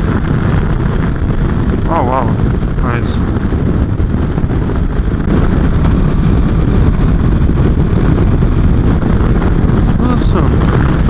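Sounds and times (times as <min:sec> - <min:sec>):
motorcycle engine running: 0:00.0 - 0:11.0
wind on microphone: 0:00.0 - 0:11.0.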